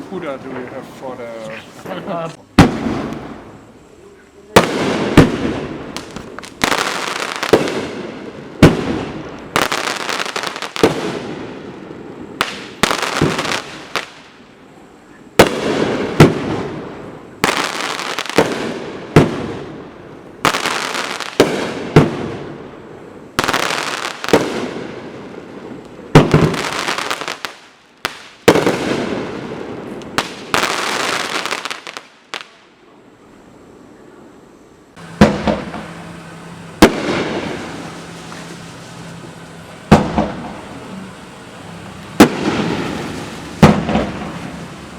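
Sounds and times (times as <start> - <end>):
fireworks banging and crackling: 0.0 - 3.7, 4.5 - 14.5, 15.3 - 32.7, 34.9 - 44.9.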